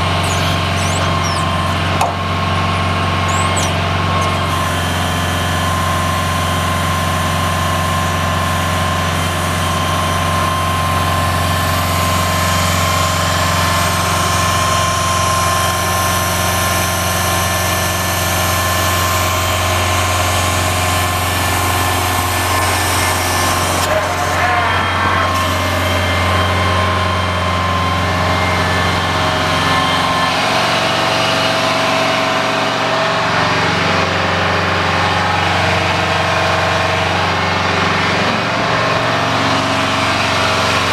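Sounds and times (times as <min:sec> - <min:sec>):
high whine: 0:00.0 - 0:34.1
diesel truck engine idling: 0:00.0 - 0:40.9.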